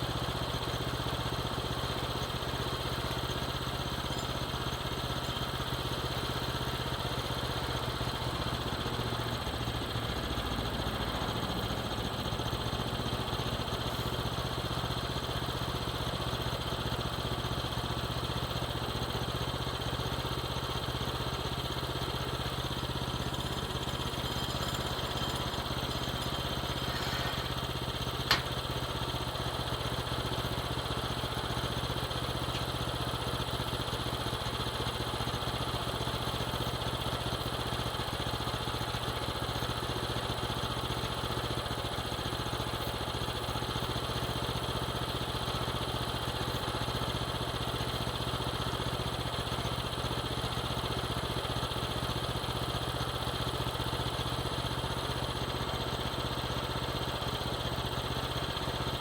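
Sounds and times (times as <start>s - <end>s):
small gasoline engine running: 0.0s - 59.0s.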